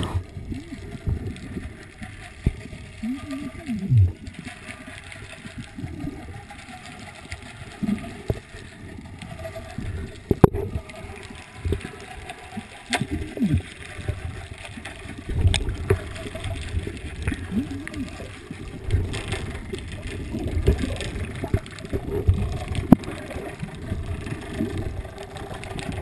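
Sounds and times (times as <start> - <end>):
underwater gurgling and sloshing: 0.0 - 26.0.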